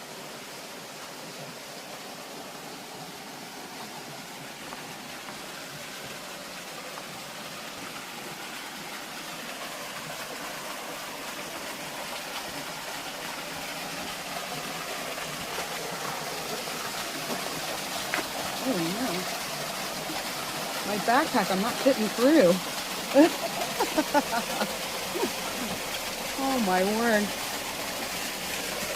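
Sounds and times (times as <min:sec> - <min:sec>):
rushing stream water: 0:00.0 - 0:28.9.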